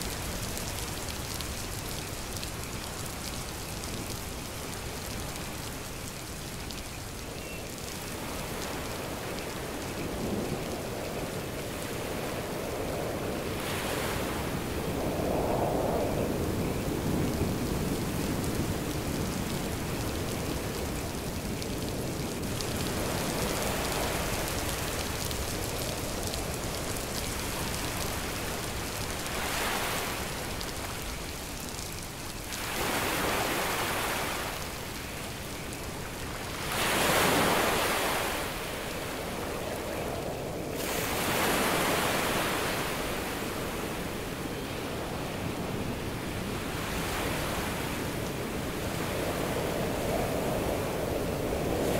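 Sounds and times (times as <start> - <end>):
rain: 0.0 - 51.9.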